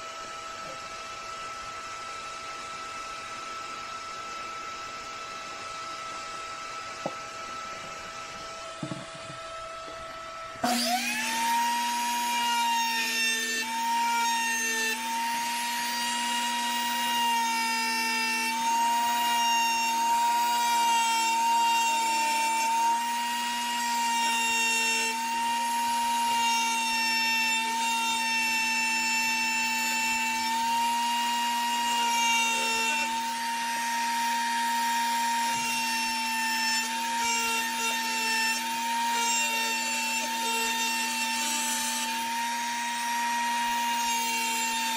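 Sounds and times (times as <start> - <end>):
rotary tool whining: 0.0 - 44.9.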